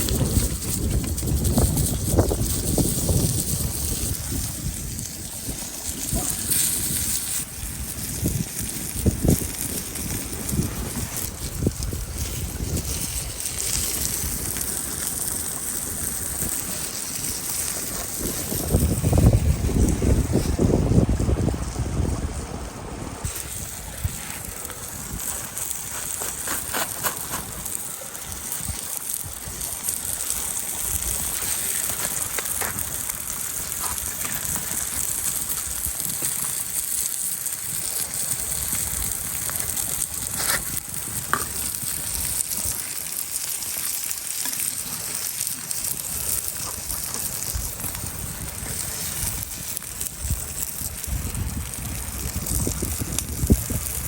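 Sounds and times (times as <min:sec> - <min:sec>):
food sizzling on hot stone: 0:00.0 - 0:54.0.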